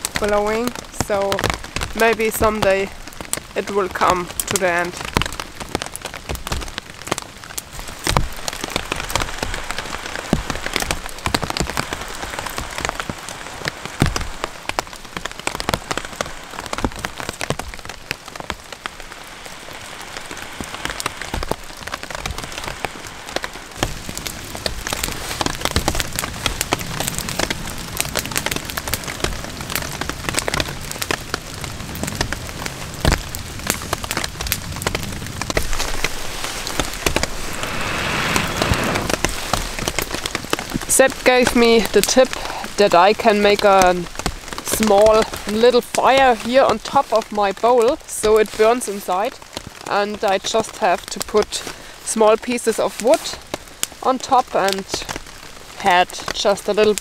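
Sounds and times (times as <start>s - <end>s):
rain pattering on a tarp: 0.0s - 57.0s.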